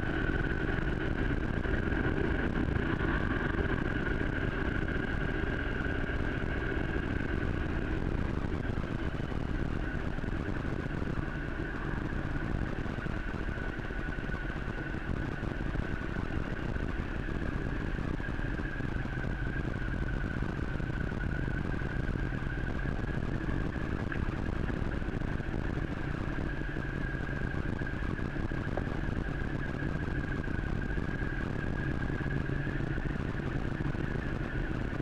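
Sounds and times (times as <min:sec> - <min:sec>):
high whine: 0:00.0 - 0:35.0
vehicle rumble with road noise: 0:00.0 - 0:35.0.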